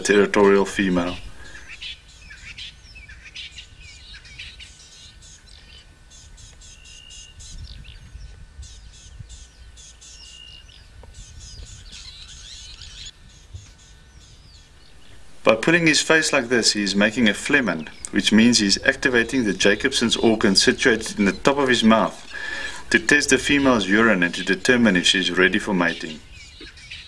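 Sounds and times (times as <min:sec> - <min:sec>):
faint high hum: 0:00.0 - 0:27.0
small birds chirping: 0:00.0 - 0:27.0.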